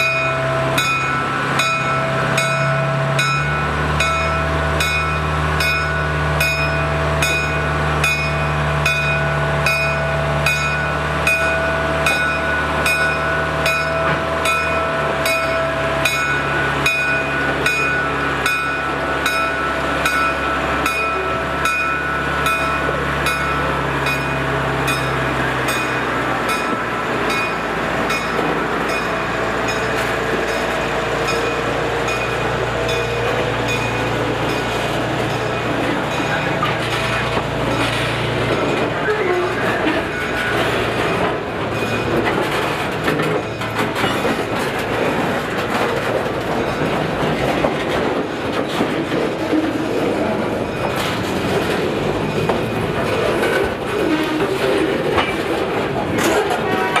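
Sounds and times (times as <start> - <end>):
railcar mover engine running: 0.0 - 57.0
train wheels rolling on rails: 0.0 - 57.0.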